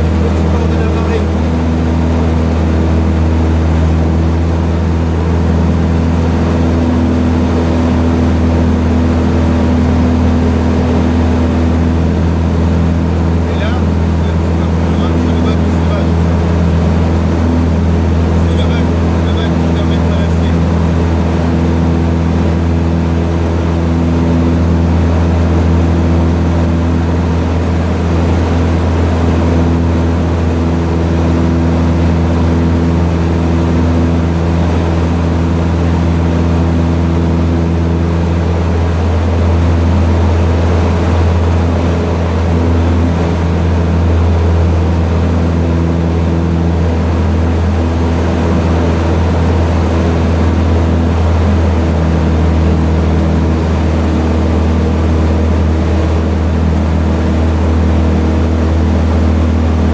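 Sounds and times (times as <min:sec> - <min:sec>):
aircraft engine droning: 0:00.0 - 0:59.9.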